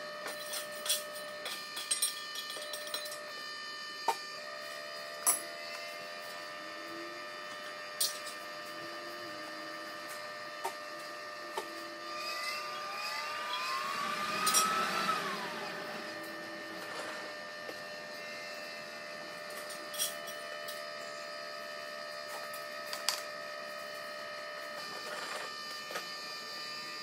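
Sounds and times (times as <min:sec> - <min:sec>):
electric air blower whine: 0:00.0 - 0:27.0.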